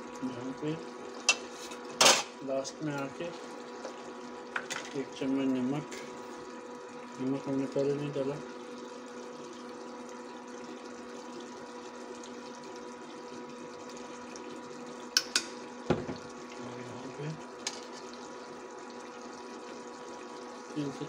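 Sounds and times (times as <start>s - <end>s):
food simmering in a pot: 0.0s - 21.0s.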